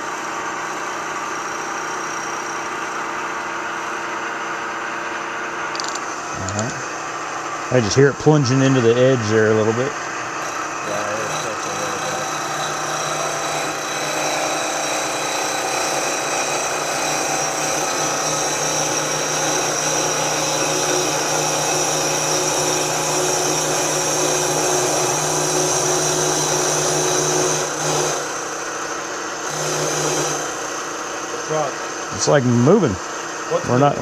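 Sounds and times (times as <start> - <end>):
milling machine cutting metal: 0.0 - 34.0.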